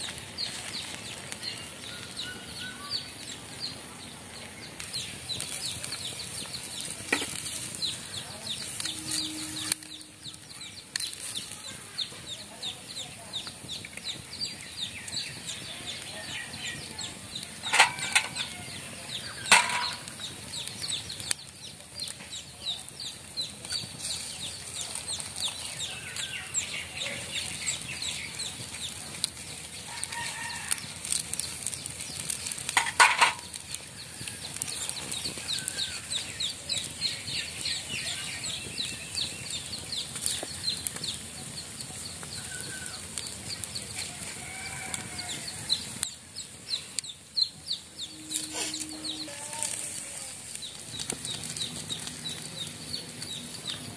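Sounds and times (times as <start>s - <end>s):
loud sharp fire cracks: 0.0s - 53.9s
wood fire crackling: 0.0s - 53.9s.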